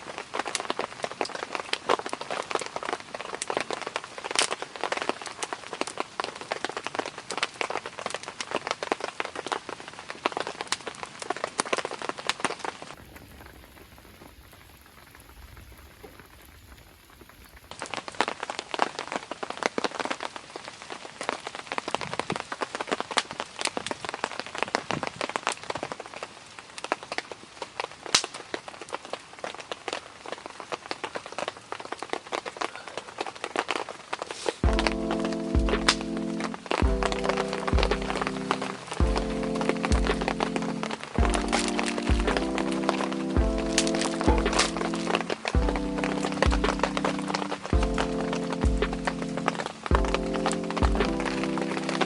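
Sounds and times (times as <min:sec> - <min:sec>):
rain hiss with low rumble: 0:00.0 - 0:52.0
raindrops hitting a surface: 0:00.0 - 0:52.0.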